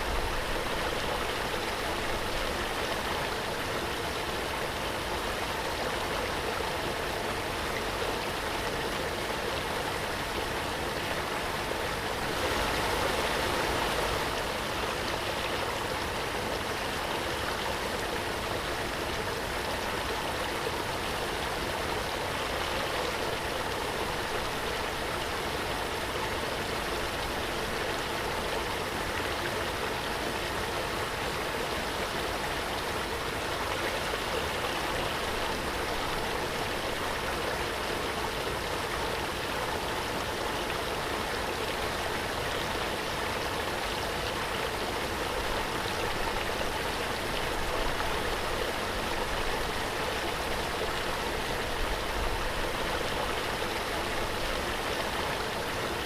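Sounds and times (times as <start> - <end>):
waterfall rushing water: 0.0 - 56.0.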